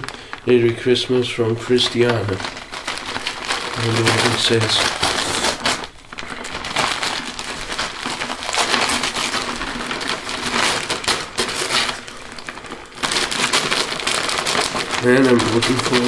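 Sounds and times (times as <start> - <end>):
wrapping paper tearing and crumpling: 0.0 - 16.0.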